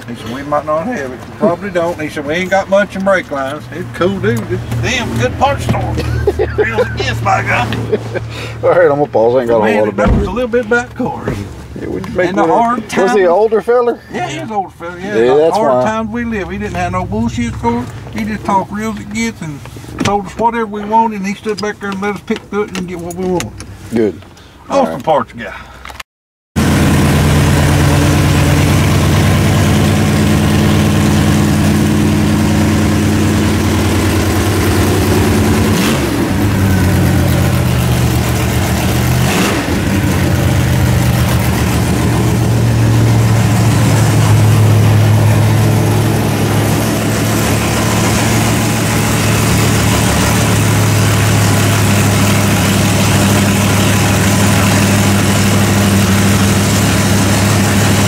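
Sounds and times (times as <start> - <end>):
car engine idling: 0.0 - 25.8, 26.6 - 58.0.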